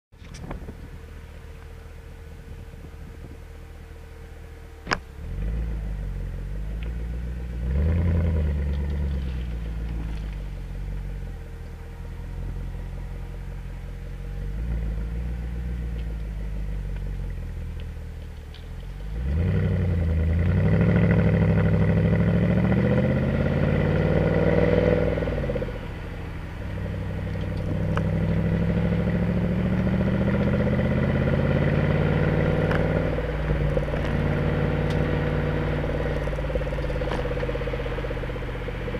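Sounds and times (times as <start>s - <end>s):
car engine exhaust rumble: 0.1s - 38.9s.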